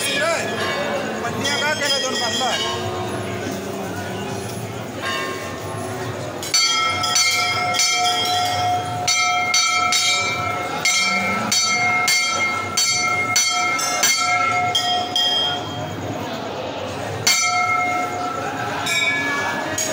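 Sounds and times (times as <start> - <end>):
metal temple bell struck: 0.0 - 3.2, 4.8 - 16.0, 17.2 - 19.9.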